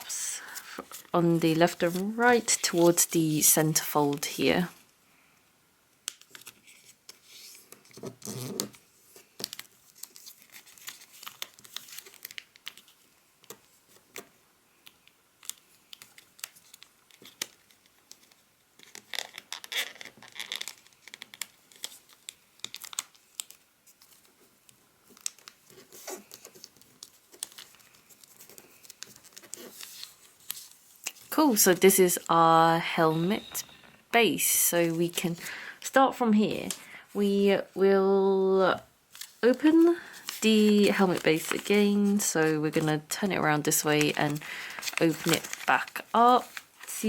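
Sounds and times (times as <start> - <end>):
paper folding and crinkling: 0.0 - 4.8, 6.1 - 37.8, 39.0 - 47.0.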